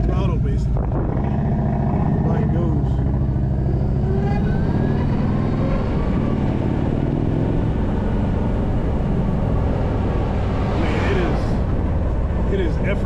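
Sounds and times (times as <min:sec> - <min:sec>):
wind rush and road noise: 0:00.0 - 0:13.0.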